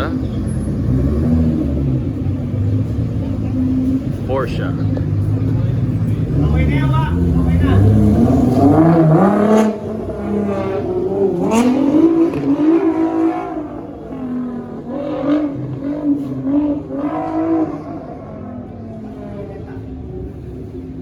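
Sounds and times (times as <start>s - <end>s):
sports car engines revving: 0.0s - 21.0s.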